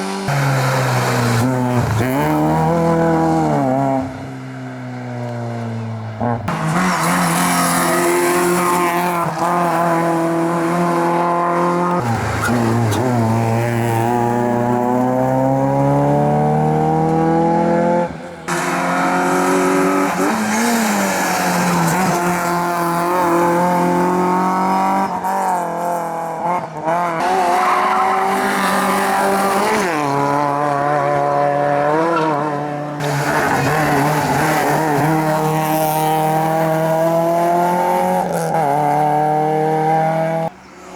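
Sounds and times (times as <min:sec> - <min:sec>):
race car engines accelerating: 0:00.0 - 0:40.9.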